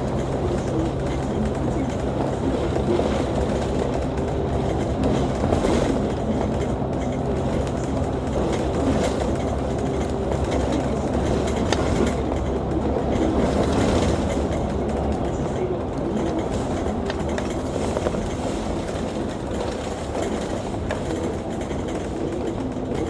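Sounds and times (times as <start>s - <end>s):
bus diesel engine drone: 0.0s - 23.0s
light rattles from bus body: 0.0s - 23.0s
road rumble: 0.0s - 23.0s.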